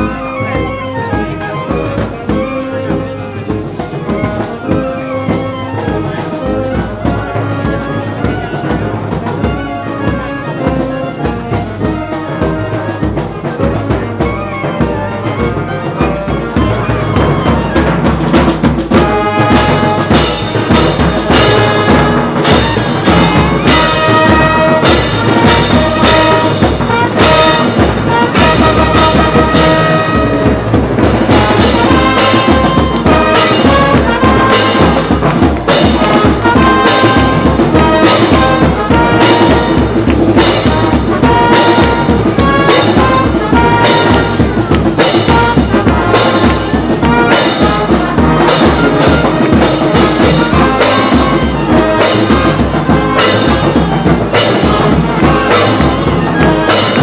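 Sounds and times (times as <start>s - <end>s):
brass melody: 0.0s - 57.0s
steady drum beat: 0.0s - 57.0s.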